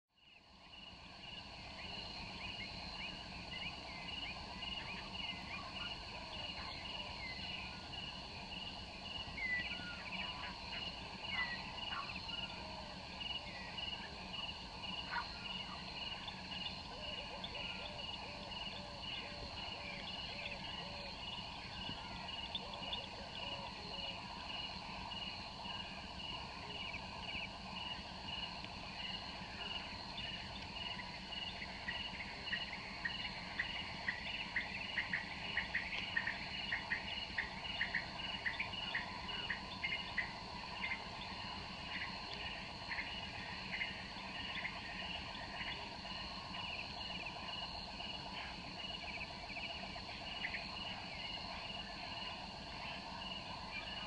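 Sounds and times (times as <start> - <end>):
insects trilling: 0.2 - 54.0.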